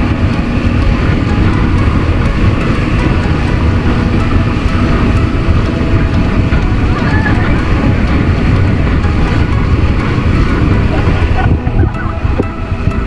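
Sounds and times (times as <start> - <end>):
water rushing past boat: 0.0 - 13.0
wind buffeting microphone: 0.0 - 13.0.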